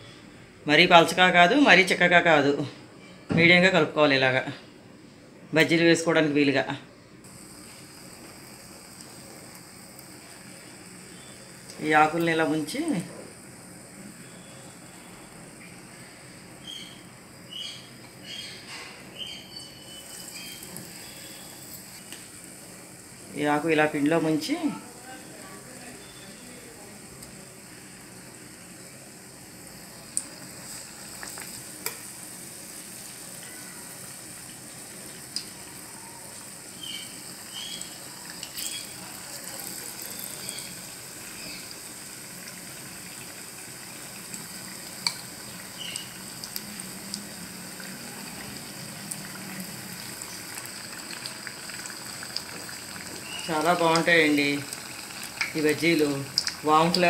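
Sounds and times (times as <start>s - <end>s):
fritters deep-frying in oil: 7.3s - 57.0s.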